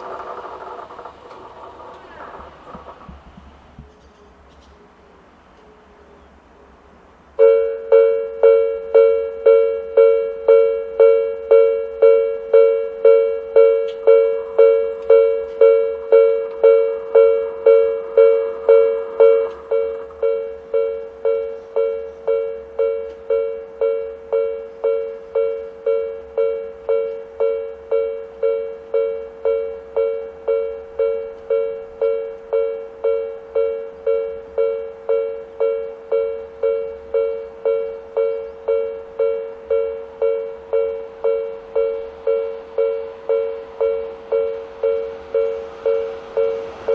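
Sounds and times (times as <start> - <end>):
level crossing bell dinging: 7.4 - 46.9.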